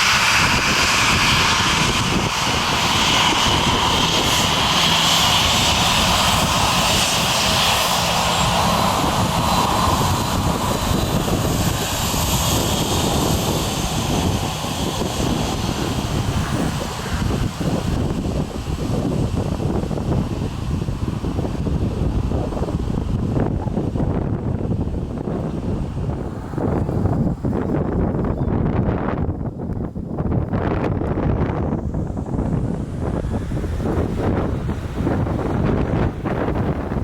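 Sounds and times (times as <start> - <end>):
airliner engines running: 0.0 - 37.0.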